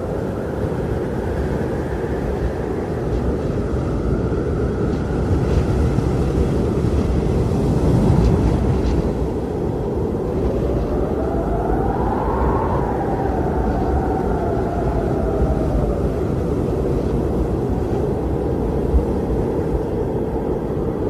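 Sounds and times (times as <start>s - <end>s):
strong wind howling: 0.0s - 21.0s.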